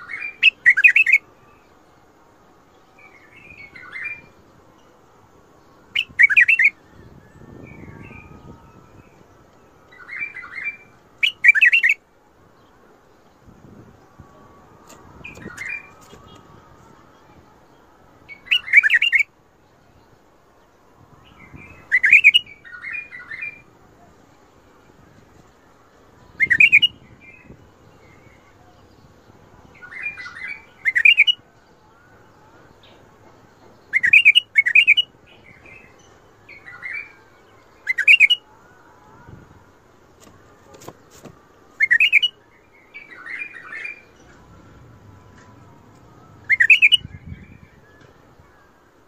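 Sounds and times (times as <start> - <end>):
bird singing whistled notes: 0.0 - 1.8, 2.7 - 4.9, 5.6 - 12.0, 13.6 - 20.1, 21.2 - 24.1, 26.2 - 39.4, 41.7 - 49.0.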